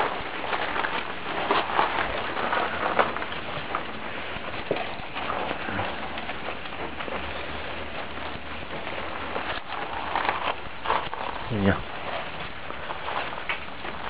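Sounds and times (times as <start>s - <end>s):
puppies scuffing and tapping: 0.0s - 14.0s.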